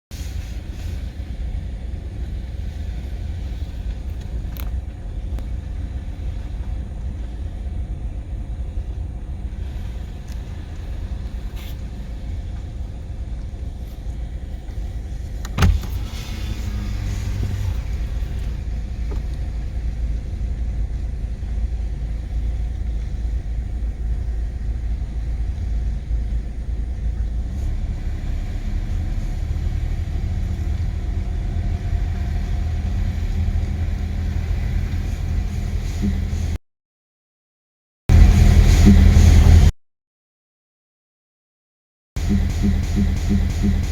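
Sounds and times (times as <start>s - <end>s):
car driving low rumble: 0.1s - 36.6s, 38.1s - 39.7s, 42.2s - 43.9s.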